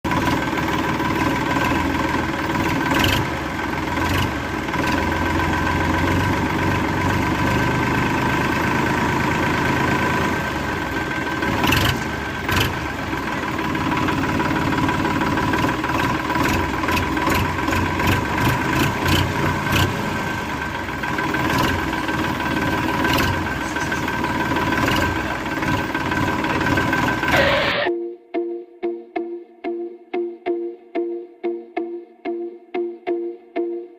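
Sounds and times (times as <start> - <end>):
engine humming: 0.0 - 27.9.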